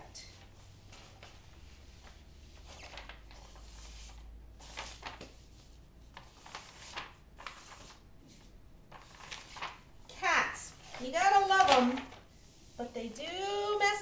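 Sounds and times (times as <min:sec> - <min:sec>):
plastic film rustling and crinkling: 0:00.3 - 0:14.0.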